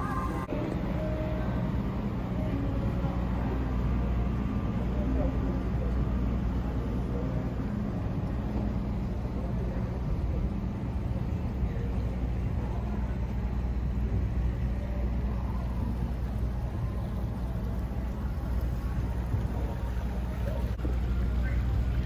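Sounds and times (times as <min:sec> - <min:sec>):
boat engines humming: 0:00.0 - 0:22.0.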